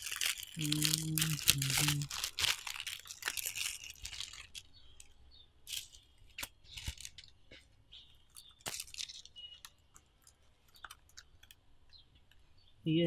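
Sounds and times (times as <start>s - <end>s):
plastic packets crinkling: 0.0s - 11.6s.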